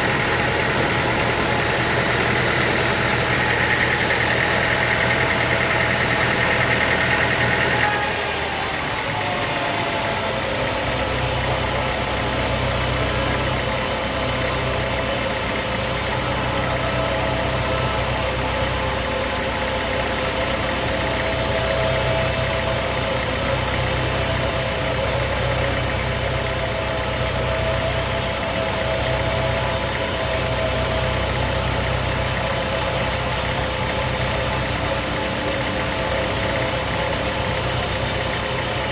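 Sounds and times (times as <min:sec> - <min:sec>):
deep machine hum: 0:00.0 - 0:38.9
high machine whine: 0:00.0 - 0:38.9
sawmill machinery drone: 0:00.0 - 0:38.9.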